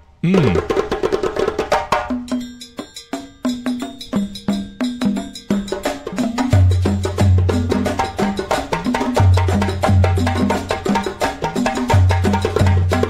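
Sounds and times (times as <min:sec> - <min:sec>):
wood-block percussion rhythm: 0:00.2 - 0:13.0.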